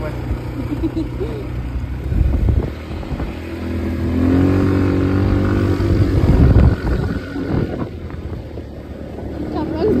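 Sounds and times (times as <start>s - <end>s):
atv engine accelerating: 0.0s - 10.0s.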